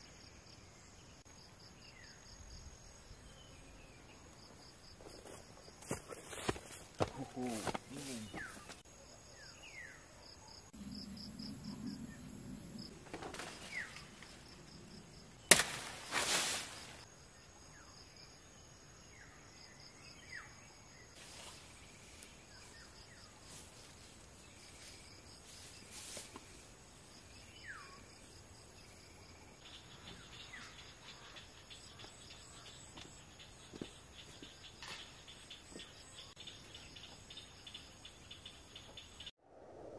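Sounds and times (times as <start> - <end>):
insects chirring: 0.0 - 39.3.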